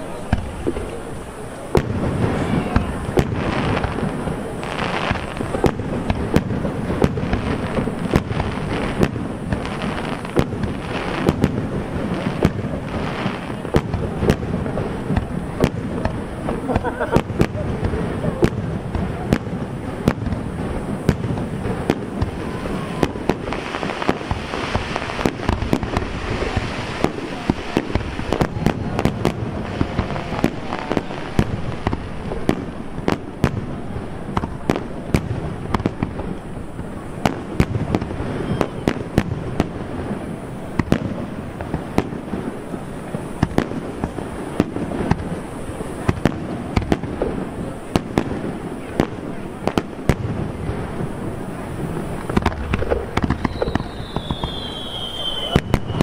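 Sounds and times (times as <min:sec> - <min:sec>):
firework shells bursting: 0:00.0 - 0:56.0.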